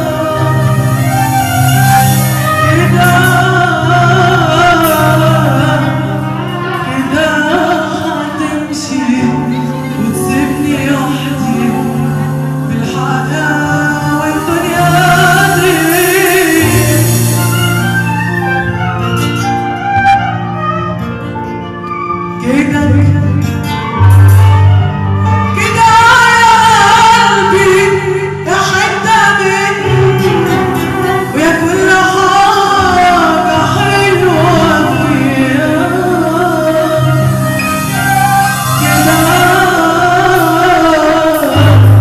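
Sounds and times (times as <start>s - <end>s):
woman singing pop song: 0.0s - 18.6s, 22.3s - 24.6s, 25.4s - 42.0s
instrumental accompaniment with bass: 0.0s - 42.0s.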